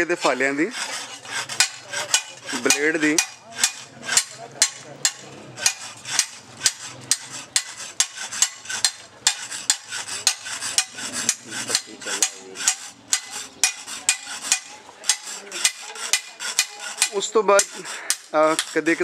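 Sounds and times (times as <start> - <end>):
hammer clanking on steel blade: 0.0 - 19.0.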